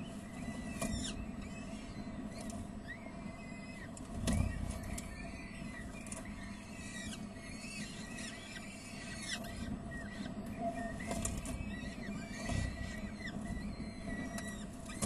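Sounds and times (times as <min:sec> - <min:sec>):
nestlings high squeaky begging calls: 0:00.0 - 0:15.0.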